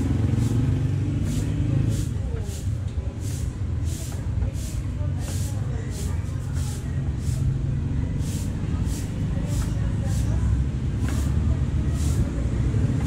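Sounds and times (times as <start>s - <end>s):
broom sweeping concrete: 0.0s - 12.4s.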